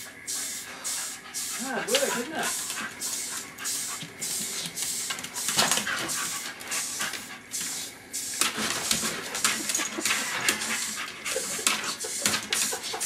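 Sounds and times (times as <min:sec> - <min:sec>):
dog sniffing: 0:00.0 - 0:13.0.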